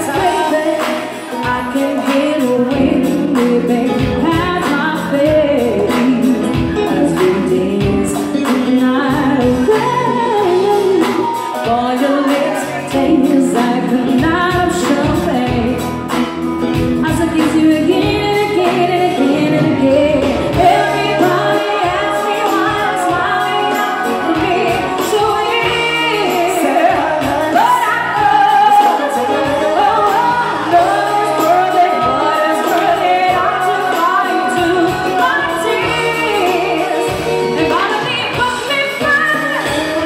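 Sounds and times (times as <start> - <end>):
drums: 0.0 - 40.0
electric guitar: 0.0 - 40.0
keyboard: 0.0 - 40.0
woman singing into a microphone: 0.0 - 40.0.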